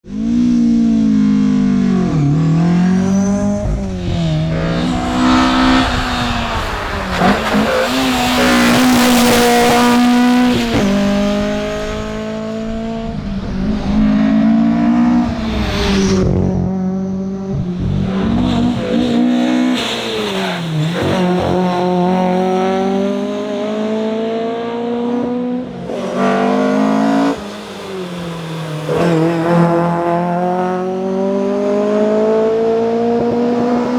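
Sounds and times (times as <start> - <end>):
car engine accelerating hard: 0.0 - 33.9
road and tyre noise: 0.0 - 33.9.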